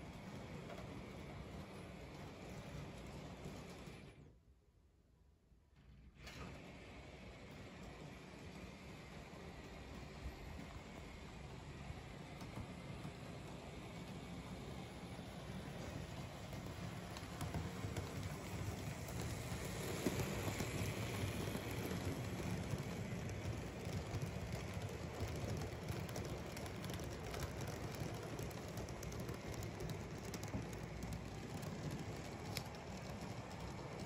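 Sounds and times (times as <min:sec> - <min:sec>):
model train wheels on rails: 0:00.0 - 0:34.0.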